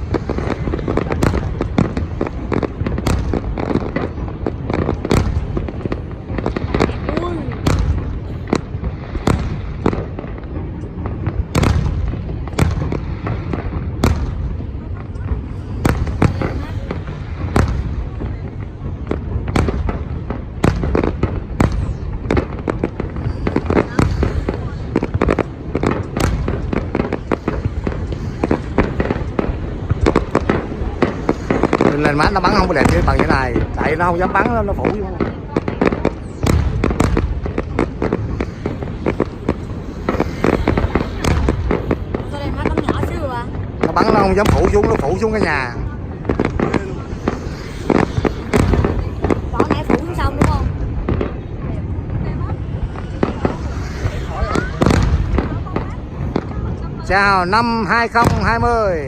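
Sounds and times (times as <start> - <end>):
distant explosions rumbling: 0.0 - 59.0
fireworks bangs and crackles: 0.0 - 59.0
loud firework booms: 0.0 - 59.0.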